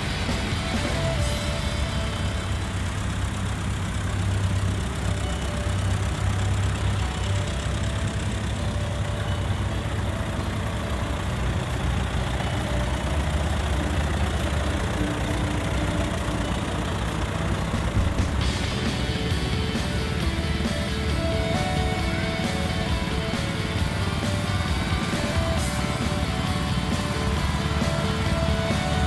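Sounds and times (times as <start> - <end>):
tractor engines rumbling: 0.0 - 29.0.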